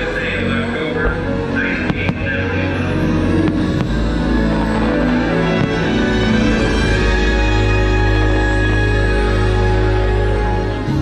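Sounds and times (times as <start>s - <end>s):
loud music playing: 0.0s - 11.0s.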